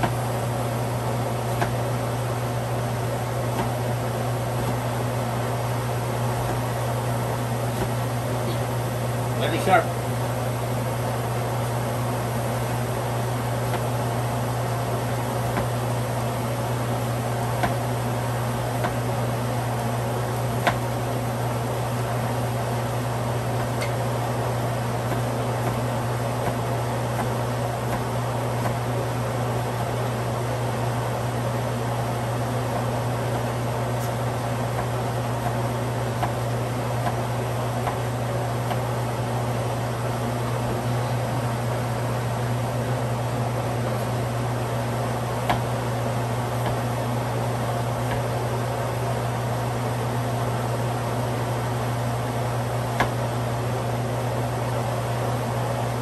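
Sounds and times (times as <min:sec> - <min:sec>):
fan-like mechanical hum: 0:00.0 - 0:56.0.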